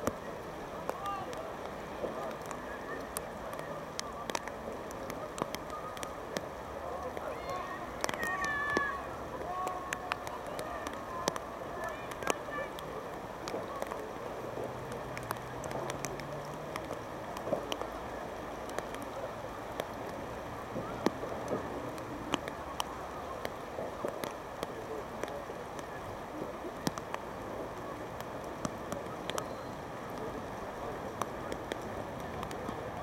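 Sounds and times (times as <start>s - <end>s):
faint indistinct voices: 0.0s - 33.0s
rain hiss: 0.0s - 33.0s
raindrops ticking: 0.0s - 33.0s.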